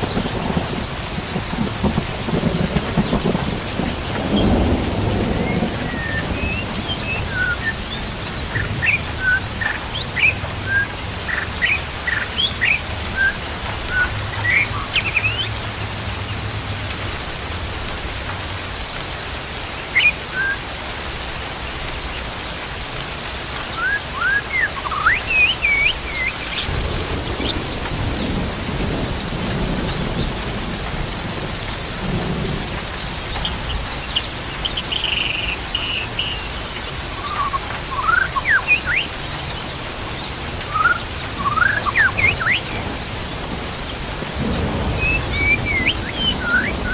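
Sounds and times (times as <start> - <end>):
small birds chirping: 0.0 - 16.4, 23.6 - 46.9
distant thunder rumbles: 0.0 - 18.8, 25.6 - 46.9
steady rain: 0.0 - 46.9.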